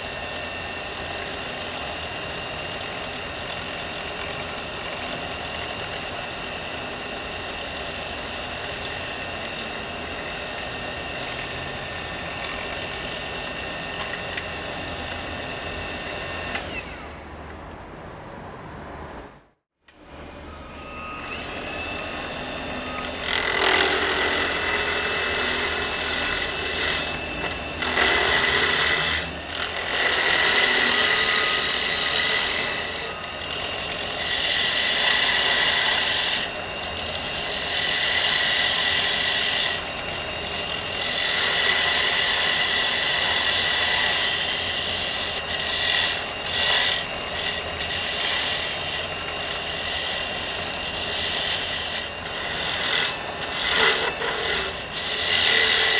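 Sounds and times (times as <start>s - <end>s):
lathe tool scraping wood: 0.0s - 17.2s, 21.0s - 55.9s
steady high whine: 0.0s - 55.9s.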